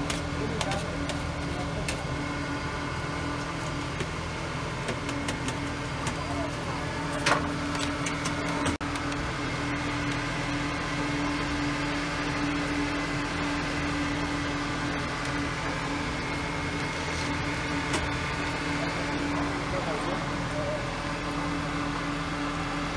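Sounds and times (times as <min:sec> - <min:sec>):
mechanical motor hum: 0:00.0 - 0:22.9.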